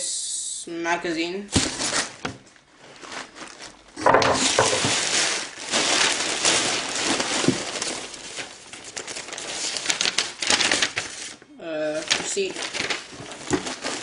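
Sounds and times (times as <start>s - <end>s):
packaging crinkling and rustling: 1.5s - 14.0s.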